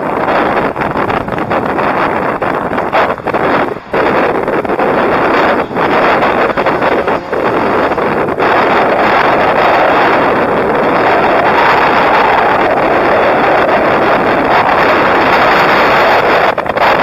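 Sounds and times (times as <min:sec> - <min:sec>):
highway traffic passing: 0:00.0 - 0:16.4
wind rushing across microphone: 0:00.0 - 0:17.0.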